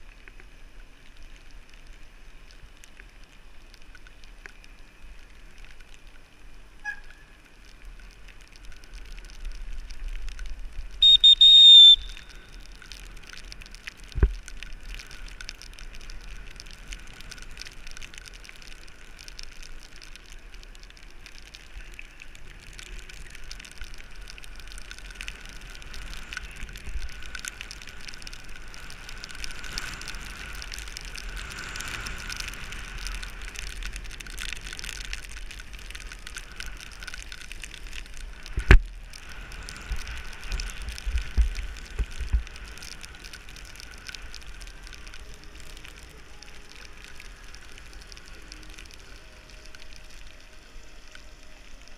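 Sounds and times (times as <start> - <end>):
rain on camera: 0.0 - 51.9
tyres hissing on wet asphalt: 0.0 - 51.9.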